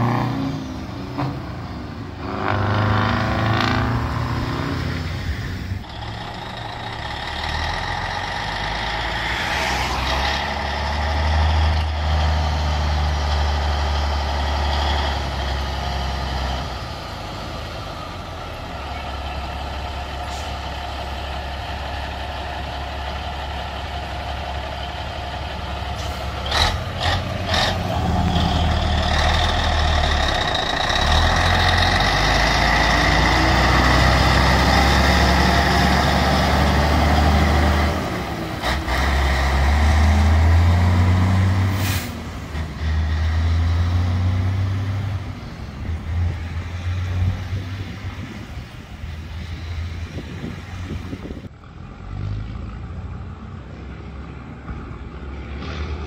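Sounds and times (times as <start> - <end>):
truck diesel engine: 0.0 - 56.0.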